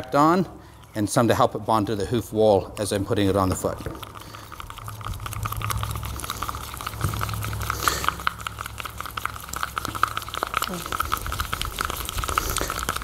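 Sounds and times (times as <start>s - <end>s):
steady low hum: 0.0s - 13.0s
stick scraping and clicking in cup: 0.0s - 13.0s.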